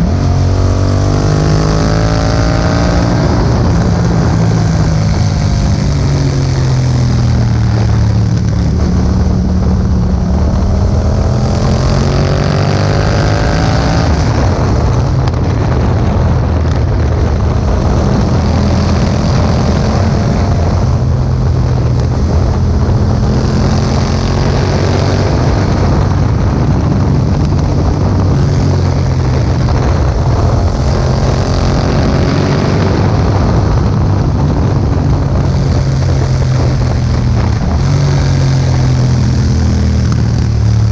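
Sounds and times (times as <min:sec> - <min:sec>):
motorcycle engine revving: 0:00.0 - 0:40.9
wind noise on microphone: 0:00.0 - 0:40.9.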